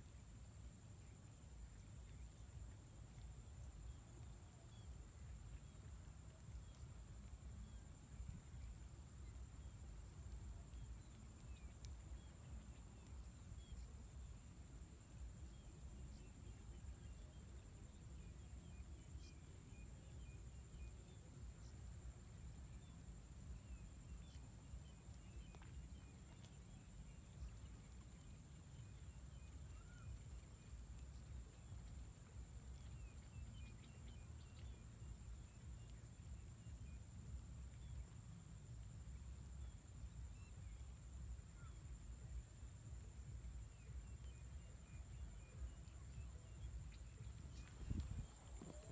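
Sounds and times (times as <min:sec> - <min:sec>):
steady high-pitched whine: 0:00.0 - 0:48.9
faint chirps: 0:00.2 - 0:48.9.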